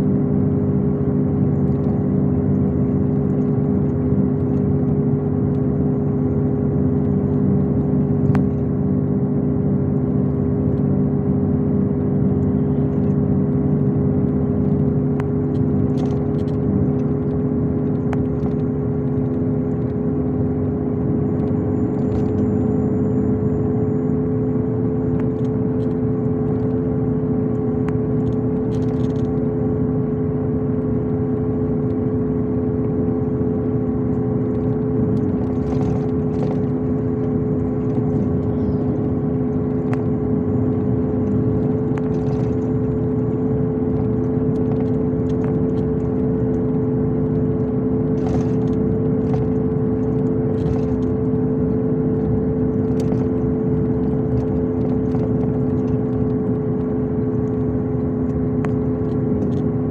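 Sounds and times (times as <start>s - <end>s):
bus engine and tyre drone: 0.0s - 59.9s
constant whine: 0.0s - 59.9s.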